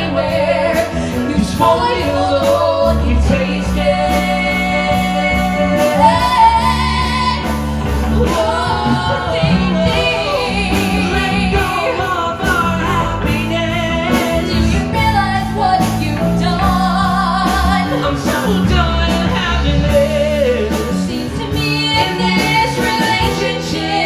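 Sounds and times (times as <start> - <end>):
rock band playing a ballad: 0.0 - 24.0.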